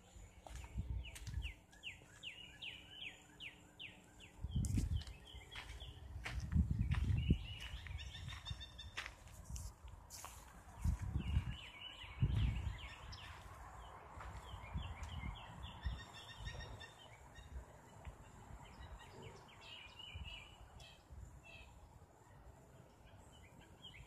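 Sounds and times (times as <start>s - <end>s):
birds chirping and calling: 0.1s - 9.1s, 10.7s - 21.8s.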